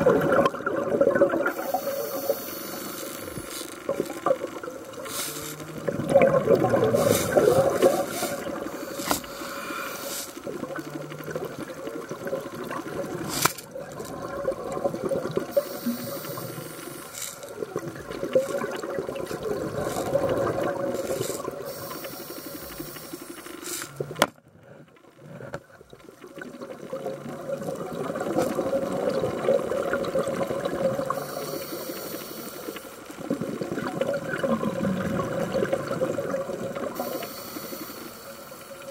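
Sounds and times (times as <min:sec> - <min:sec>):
underwater regulator bubbling: 0:00.0 - 0:24.3, 0:26.3 - 0:38.9.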